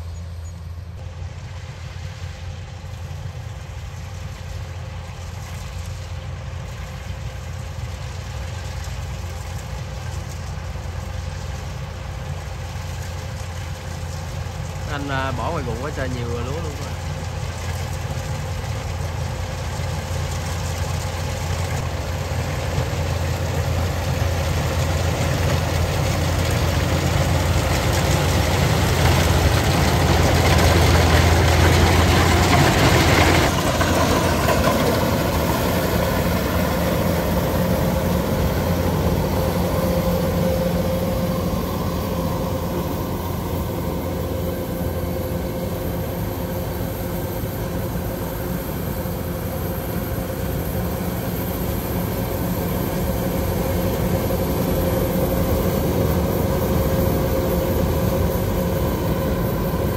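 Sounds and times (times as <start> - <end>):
combine harvester engine and threshing: 0.0 - 59.9.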